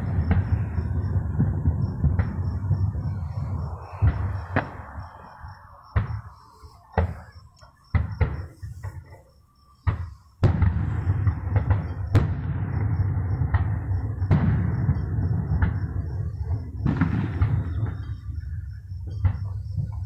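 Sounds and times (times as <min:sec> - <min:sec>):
fireworks booming bangs: 0:00.0 - 0:20.0
fireworks continuous rumble with cracks: 0:00.0 - 0:20.0.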